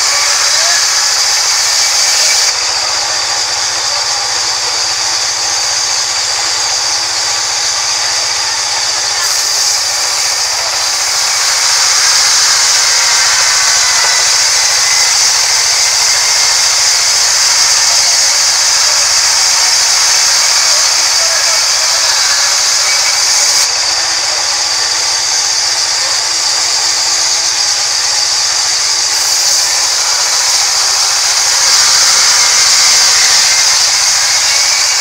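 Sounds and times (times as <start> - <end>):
band saw cutting wood: 0.0 - 35.0.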